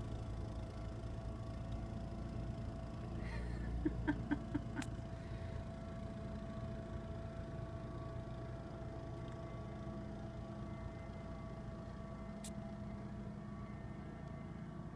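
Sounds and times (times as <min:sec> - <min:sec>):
muffled garden tractor engine rumble: 0:00.0 - 0:14.9.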